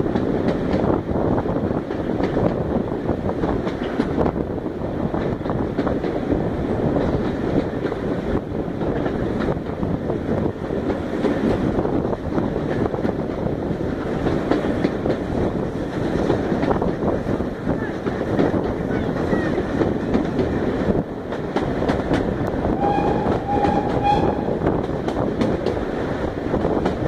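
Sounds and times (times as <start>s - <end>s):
train wheels rumbling on rails: 0.0s - 27.0s
wind on microphone: 0.0s - 27.0s.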